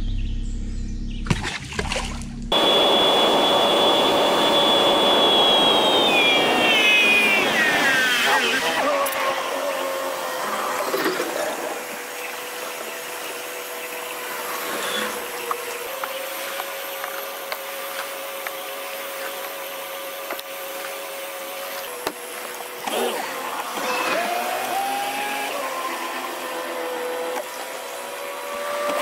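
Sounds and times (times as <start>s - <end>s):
electric trolling motor whine: 2.4s - 29.0s.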